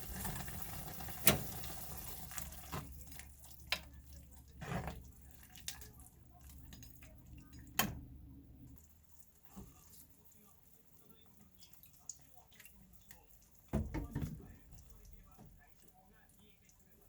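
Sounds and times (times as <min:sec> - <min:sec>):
low steady hum: 0:01.7 - 0:17.0.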